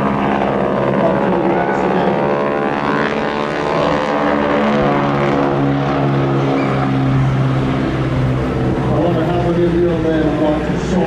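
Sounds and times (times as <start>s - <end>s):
biplane radial engine droning: 0.0s - 11.0s.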